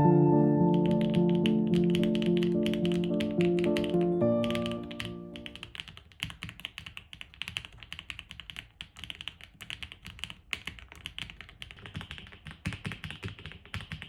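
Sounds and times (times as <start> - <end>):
fast mechanical keyboard typing: 0.7 - 14.0.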